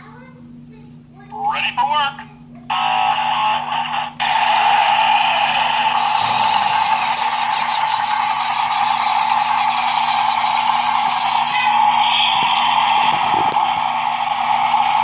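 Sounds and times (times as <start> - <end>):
toy electric whir: 2.7 - 15.0.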